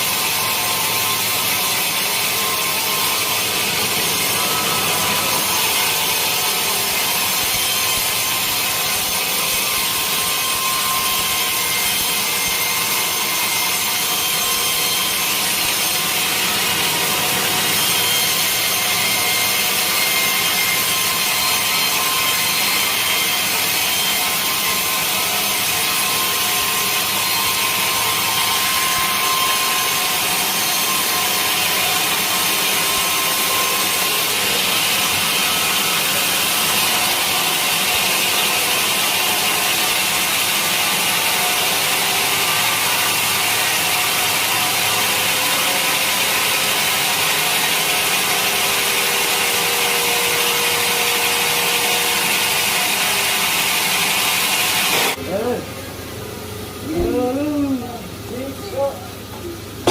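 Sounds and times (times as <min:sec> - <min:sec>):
saw cutting through log: 0:00.0 - 0:55.6.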